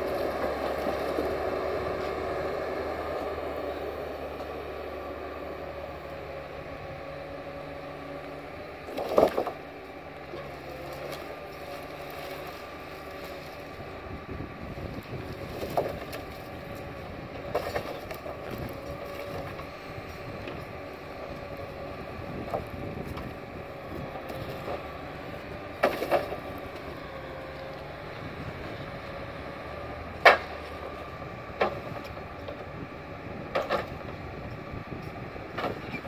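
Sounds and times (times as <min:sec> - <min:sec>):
forestry machine engine running: 0:00.0 - 0:36.0.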